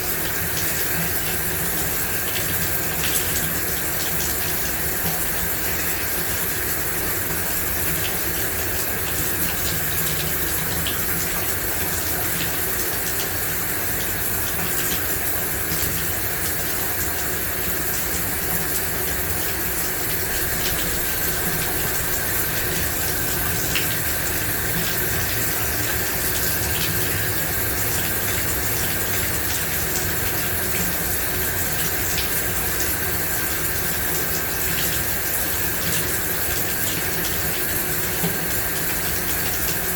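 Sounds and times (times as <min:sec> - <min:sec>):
shower water spraying: 0:00.1 - 0:39.9.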